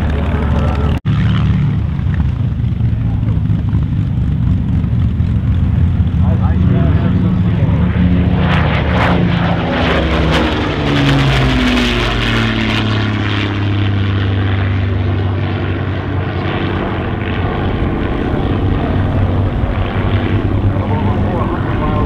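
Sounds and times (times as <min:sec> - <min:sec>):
aircraft engines flying past: 0:00.0 - 0:22.0.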